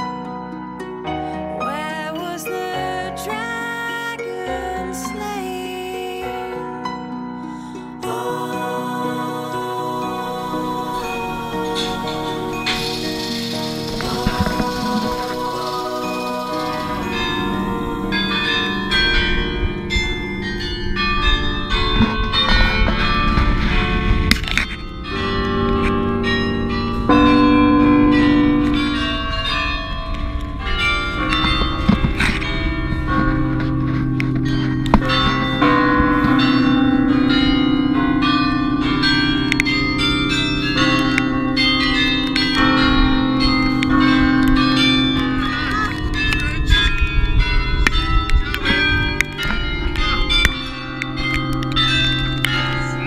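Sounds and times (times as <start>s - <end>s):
carillon bells ringing a tune: 0.0s - 53.0s.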